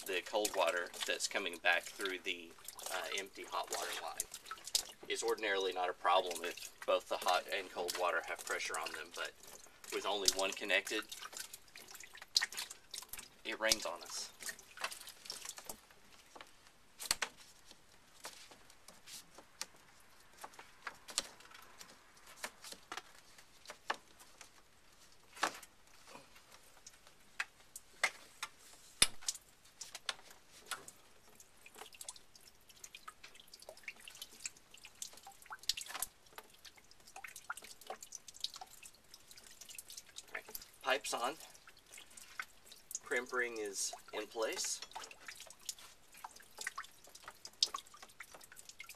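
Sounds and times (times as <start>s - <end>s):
water dripping: 0.0s - 48.9s.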